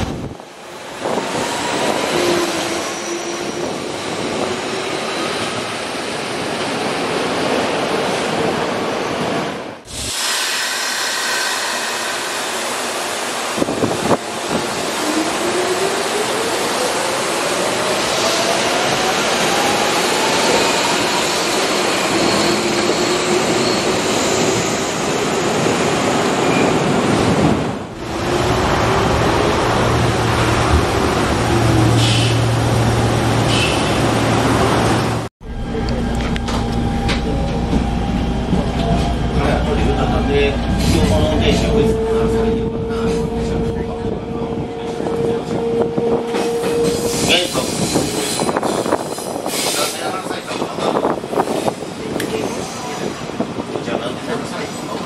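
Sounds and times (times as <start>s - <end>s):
train wheel and rail noise: 0.0s - 55.0s.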